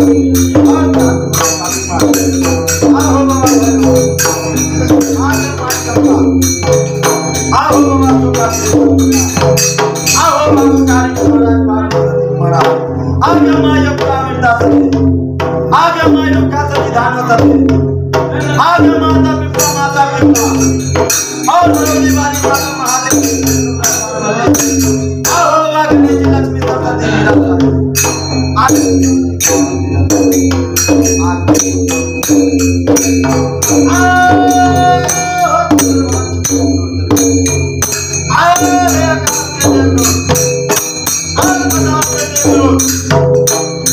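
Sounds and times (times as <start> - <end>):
man singing: 0.0 - 15.0, 15.7 - 43.6
hand cymbals striking: 0.0 - 43.9
hand drum beat: 0.0 - 43.9.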